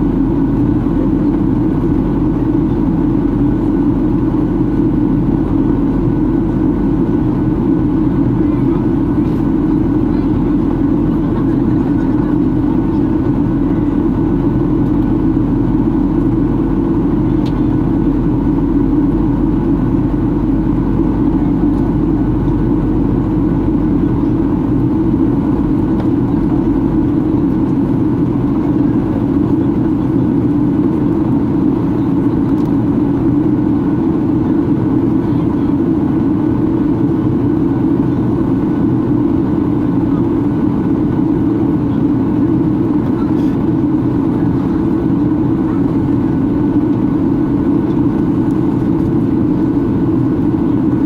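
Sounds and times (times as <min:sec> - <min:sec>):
airplane cabin engine rumble: 0:00.0 - 0:51.0
very deep hum: 0:00.0 - 0:51.0.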